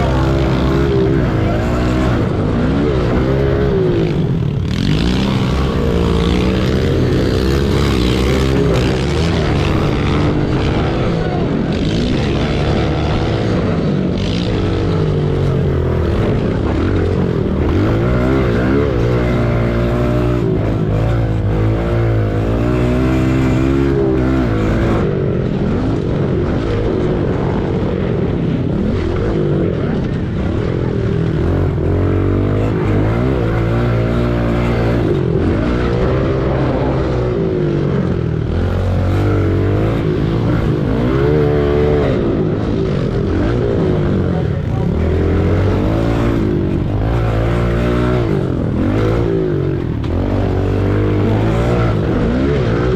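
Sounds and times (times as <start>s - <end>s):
pit bike engines revving: 0.0s - 52.9s.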